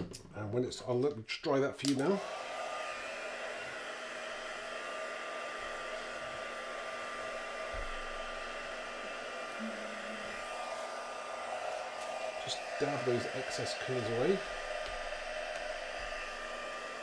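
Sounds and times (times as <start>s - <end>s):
heat tool blowing with motor whine: 2.1s - 17.0s.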